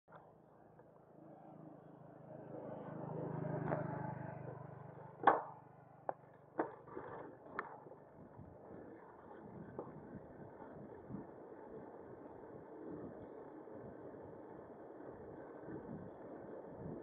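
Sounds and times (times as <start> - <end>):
low motor hum: 0.1 - 17.0.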